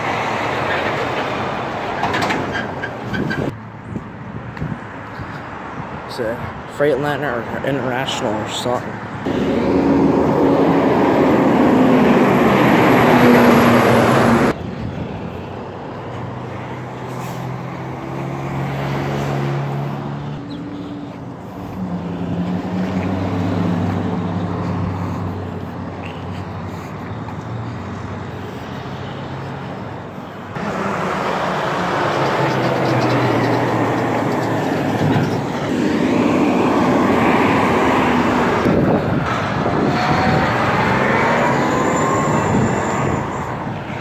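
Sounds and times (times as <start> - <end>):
diesel trucks and traffic passing: 0.0 - 44.0.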